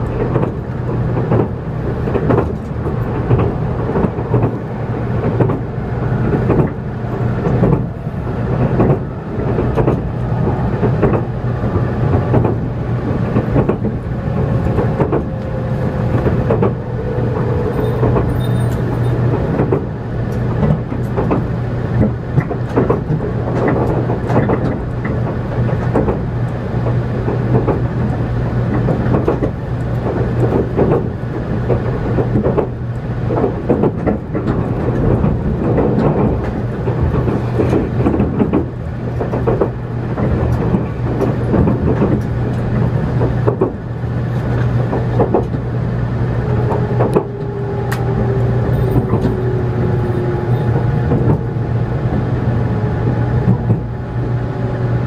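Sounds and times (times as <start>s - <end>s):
wheels clacking over rail joints: 0.0s - 54.0s
train wheels humming and rumbling: 0.0s - 55.0s.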